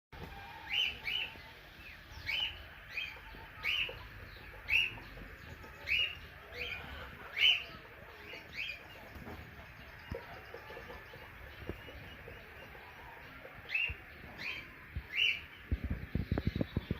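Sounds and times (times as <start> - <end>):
small birds chirping: 0.2 - 16.9.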